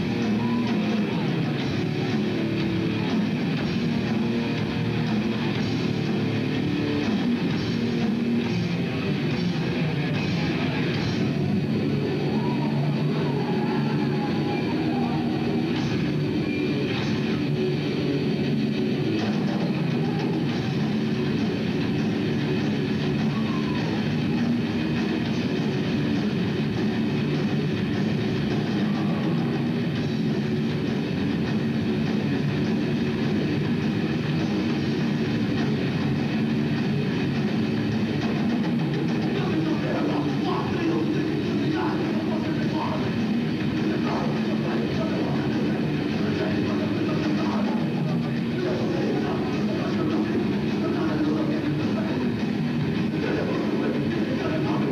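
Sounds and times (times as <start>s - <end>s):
bass guitar: 0.0s - 54.9s
distorted electric guitars: 0.0s - 54.9s
drum kit: 0.0s - 54.9s.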